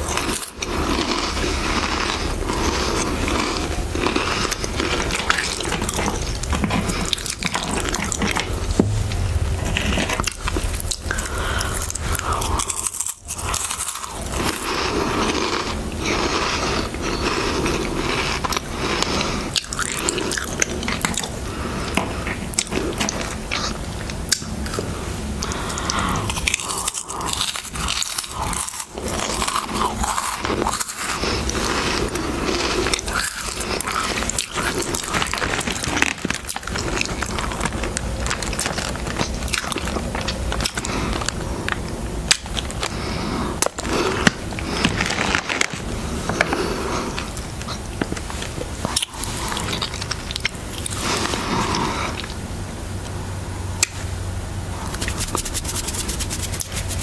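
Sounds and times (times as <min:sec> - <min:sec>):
crisps being chewed: 0:00.0 - 0:52.4, 0:54.8 - 0:57.0.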